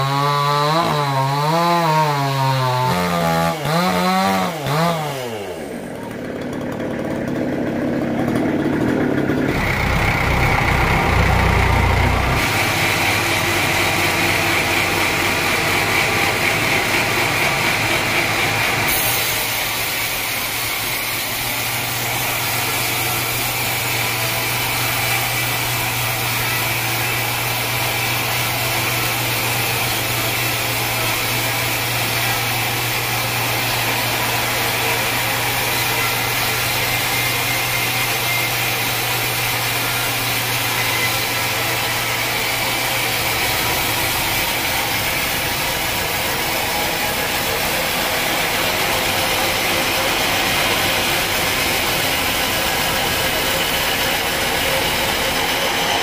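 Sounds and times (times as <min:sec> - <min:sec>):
band sawmill running: 0:00.0 - 0:56.0
saw blade hissing through log: 0:09.6 - 0:56.0.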